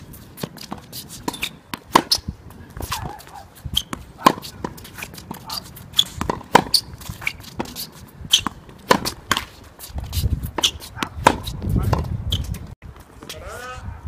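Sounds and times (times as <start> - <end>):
tennis ball hitting racket: 0.1 - 12.6.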